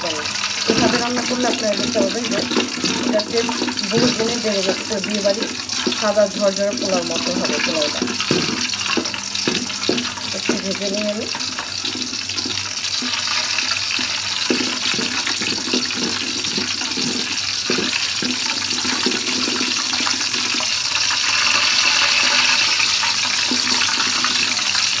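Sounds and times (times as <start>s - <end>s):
spices sizzling in hot oil: 0.0s - 25.0s
wooden spatula scraping pot: 0.6s - 22.7s.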